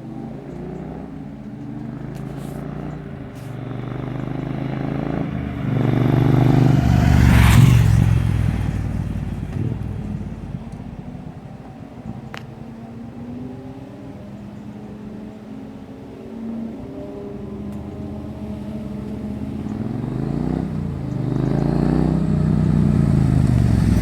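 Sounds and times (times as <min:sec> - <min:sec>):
motorcycle engine running: 0:00.0 - 0:12.7, 0:16.2 - 0:24.0.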